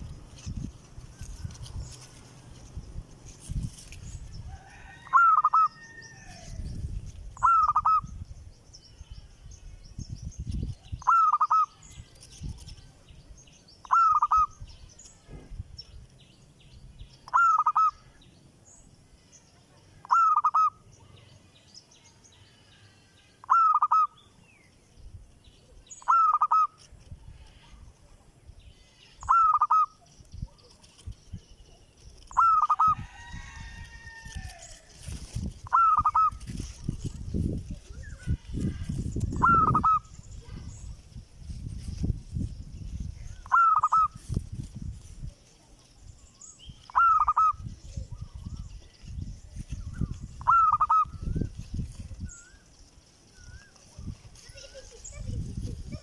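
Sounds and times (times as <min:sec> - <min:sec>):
faint high bird chirping: 0:00.0 - 0:56.0.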